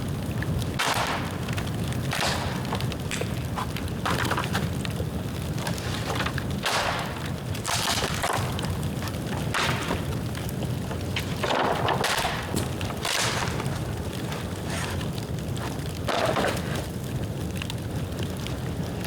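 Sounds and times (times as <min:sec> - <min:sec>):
bamboo crackling in bonfire: 0:00.0 - 0:19.0.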